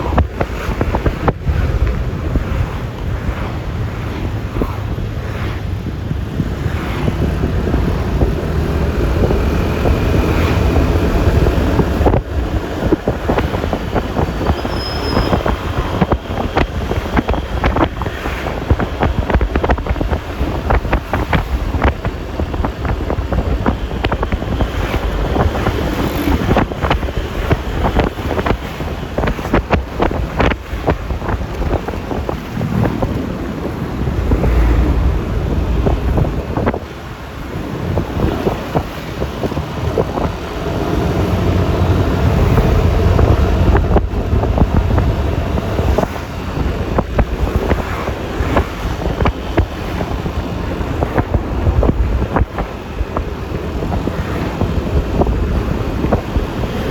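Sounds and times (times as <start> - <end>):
tyres on road: 0.0 - 56.9
wind buffeting microphone: 0.0 - 56.9.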